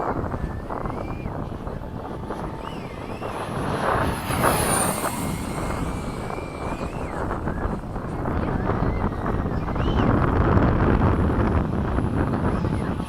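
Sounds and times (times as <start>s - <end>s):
electric ducted fan whine: 0.0s - 13.0s
wind rumble on microphone: 0.0s - 13.0s.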